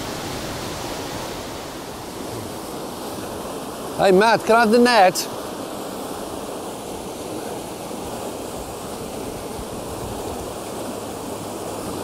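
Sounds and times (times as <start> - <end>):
water rushing through weir: 0.0 - 12.0.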